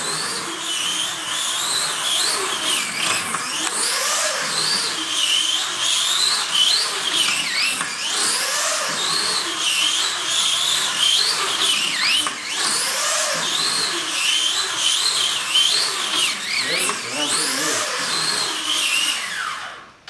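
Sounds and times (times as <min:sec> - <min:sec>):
slot car electric motor whining: 0:00.0 - 0:19.9.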